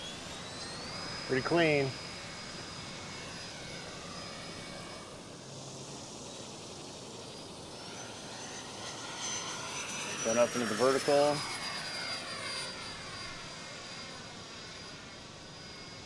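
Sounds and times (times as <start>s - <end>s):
electric ducted fan whining: 0.0s - 16.0s.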